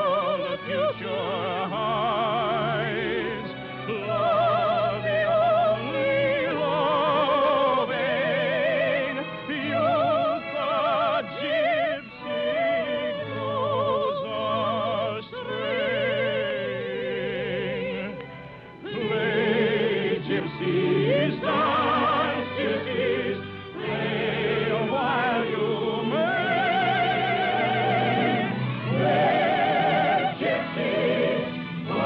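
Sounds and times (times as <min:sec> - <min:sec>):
operatic singing with wide vibrato: 0:00.0 - 0:32.0
orchestra playing low notes: 0:00.0 - 0:32.0.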